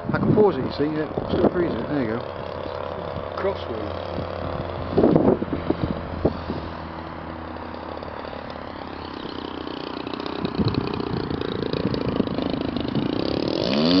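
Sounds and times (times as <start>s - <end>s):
model airplane engine running: 0.0s - 14.0s.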